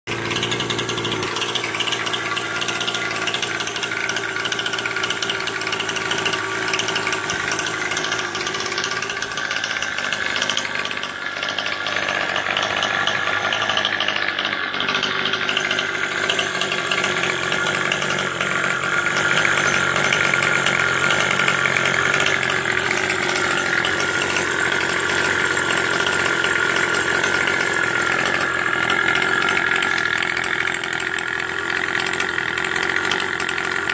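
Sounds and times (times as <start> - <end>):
two-stroke engine idling: 0.0 - 33.9.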